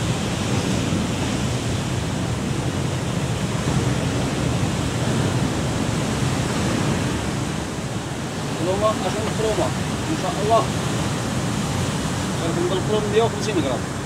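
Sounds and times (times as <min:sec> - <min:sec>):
surf breaking on rocks: 0:00.0 - 0:14.0.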